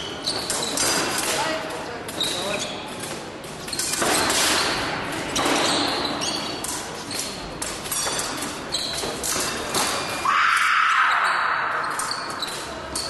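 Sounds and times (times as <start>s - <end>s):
sports hall background noise: 0.0s - 13.0s.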